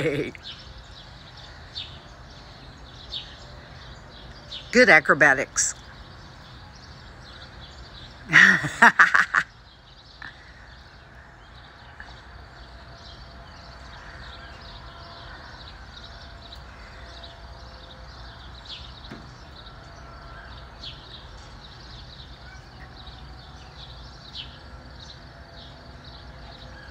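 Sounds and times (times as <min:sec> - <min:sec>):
low outdoor rumble: 0:00.0 - 0:26.9
small birds chirping: 0:00.0 - 0:26.9.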